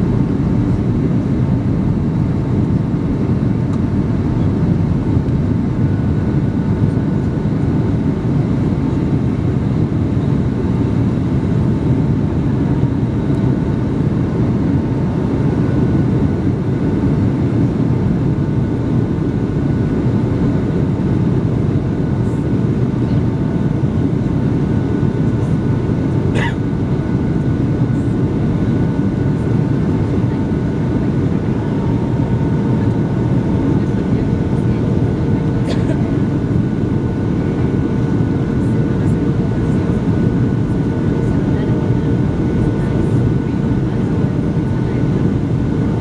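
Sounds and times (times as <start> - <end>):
aircraft cabin engine rumble: 0.0 - 46.0.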